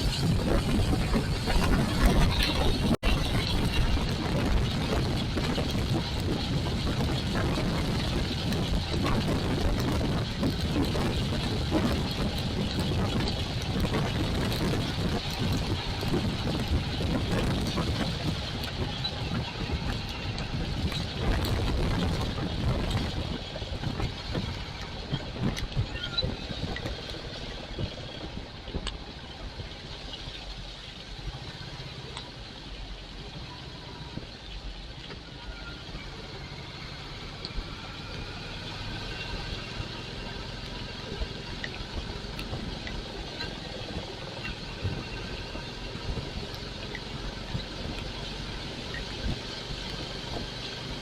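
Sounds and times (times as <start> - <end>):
motorcycle engine running: 0.0 - 30.0, 35.9 - 51.0
road noise: 0.0 - 51.0.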